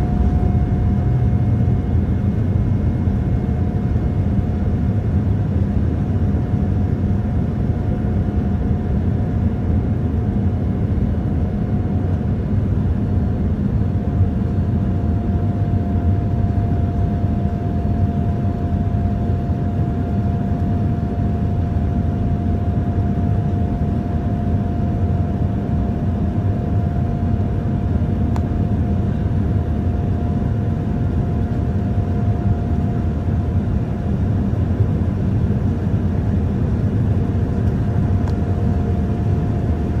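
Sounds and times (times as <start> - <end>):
jet engine and airflow roar: 0.0 - 40.0
steady engine whine: 0.0 - 40.0.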